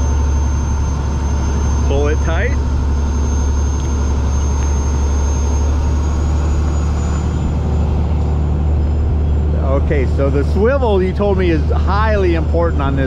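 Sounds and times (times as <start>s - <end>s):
boat engines droning: 0.0s - 13.0s
faint high whine: 0.0s - 13.0s.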